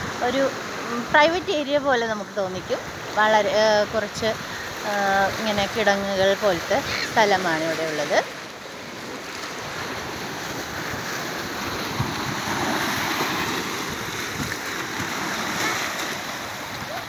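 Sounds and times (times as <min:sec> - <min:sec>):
surf breaking over rocks: 0:03.1 - 0:17.0.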